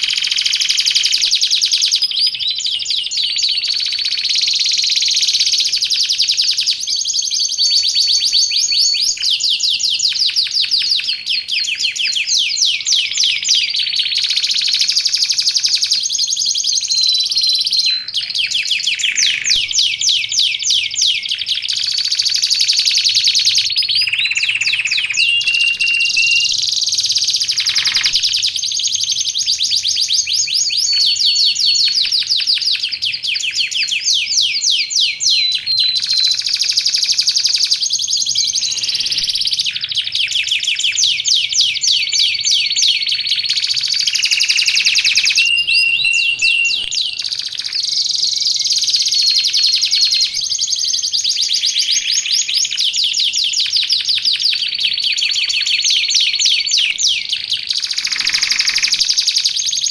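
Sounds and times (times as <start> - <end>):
canary singing trills and chirps: 0.0 - 59.9.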